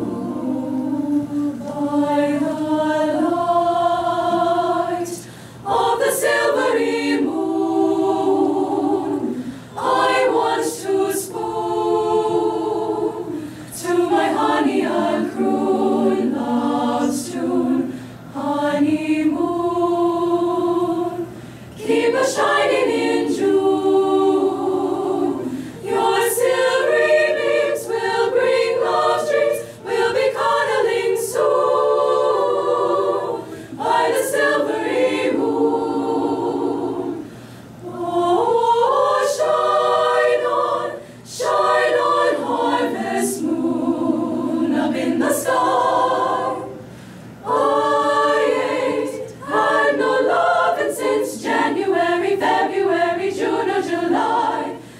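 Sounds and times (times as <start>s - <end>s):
choir singing unaccompanied: 0.0s - 54.9s.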